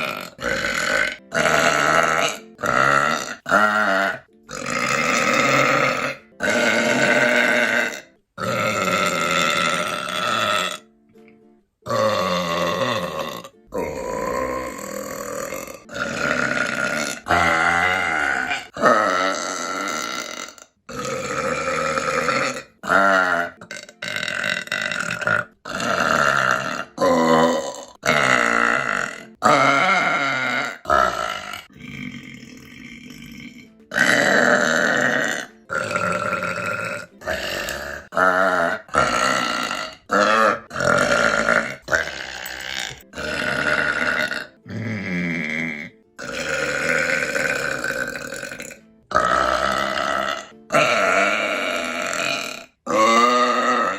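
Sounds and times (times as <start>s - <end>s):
woman burping: 0.0s - 10.9s, 11.8s - 53.9s.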